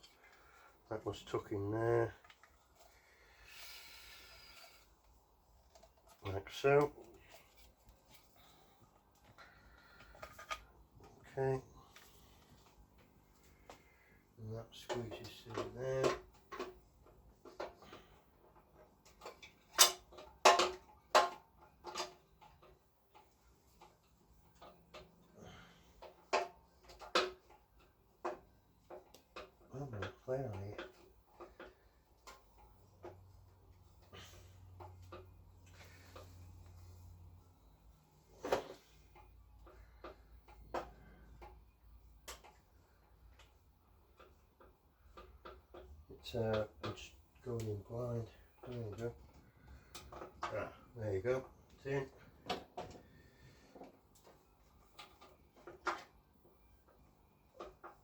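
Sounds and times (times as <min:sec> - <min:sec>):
parts clicking and knocking: 0:04.2 - 0:13.9, 0:14.7 - 0:58.0.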